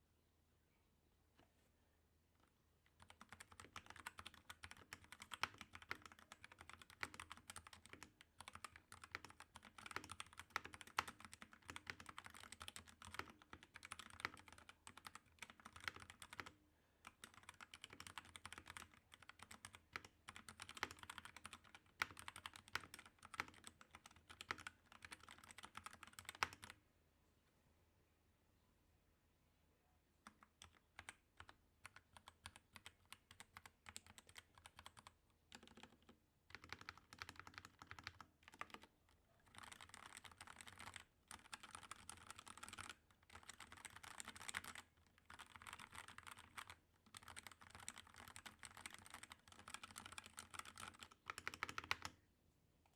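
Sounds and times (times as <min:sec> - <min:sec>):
fast typing on mechanical keyboard: 0:03.0 - 0:26.8, 0:30.4 - 0:52.1.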